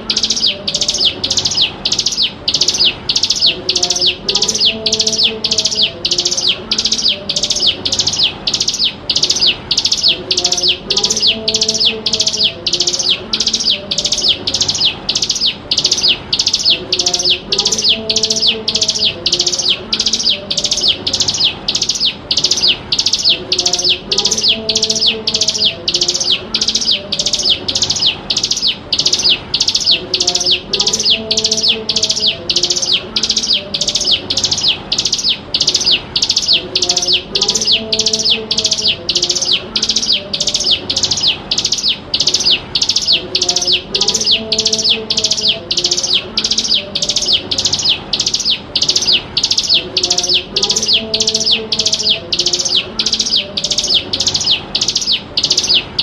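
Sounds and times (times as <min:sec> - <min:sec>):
bird calling high sharp chirps: 0:00.0 - 0:56.0.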